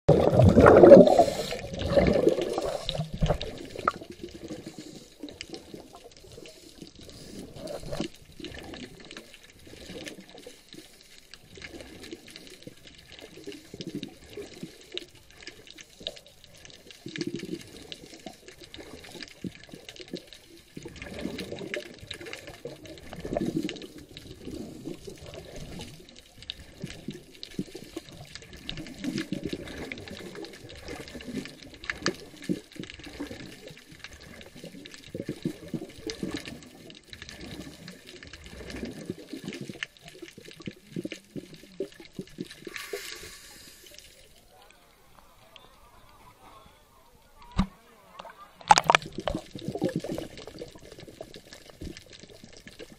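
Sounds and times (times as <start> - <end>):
crackle of small clicks: 0.1 - 46.2, 47.4 - 52.9
underwater bubbles rushing: 0.1 - 46.4, 47.1 - 52.9.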